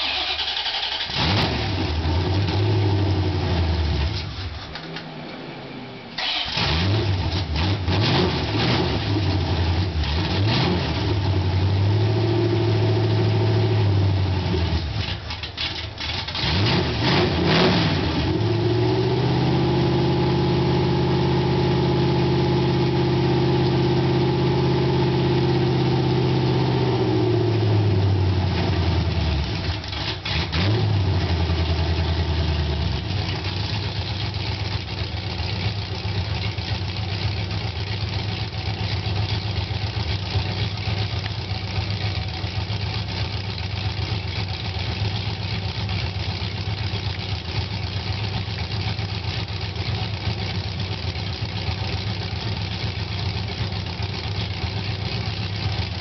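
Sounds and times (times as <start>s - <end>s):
car engine idling and revving: 0.0s - 56.0s
car engine starting: 0.0s - 56.0s.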